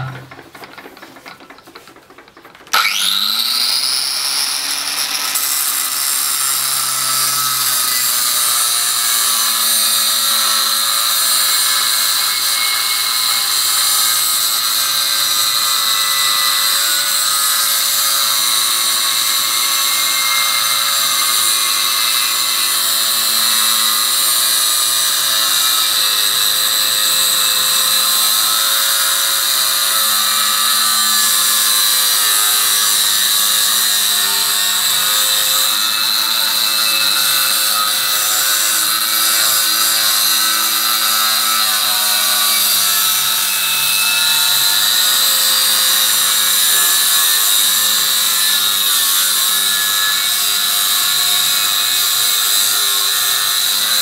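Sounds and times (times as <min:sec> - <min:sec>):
angle grinder cutting steel: 0:00.0 - 0:00.4, 0:02.7 - 0:54.0.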